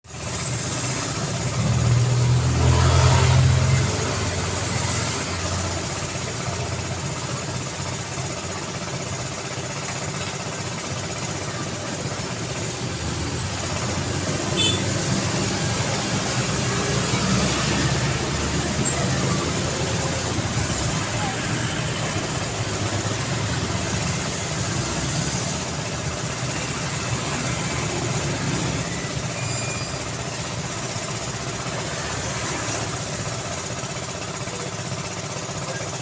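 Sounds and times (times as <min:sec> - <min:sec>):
road traffic noise: 0:00.0 - 0:36.0
vehicle engine rumble: 0:00.1 - 0:36.0.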